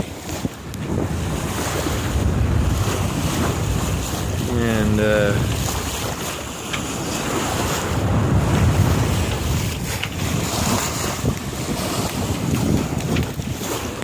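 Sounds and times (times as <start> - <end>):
ocean waves rushing: 0.0 - 14.0
water splashing past hull: 0.0 - 14.0
wind buffeting microphone: 0.0 - 14.0.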